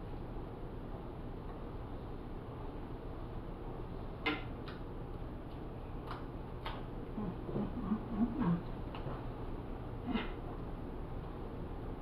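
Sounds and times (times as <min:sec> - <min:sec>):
room noise hiss and rumble: 0:00.0 - 0:12.0.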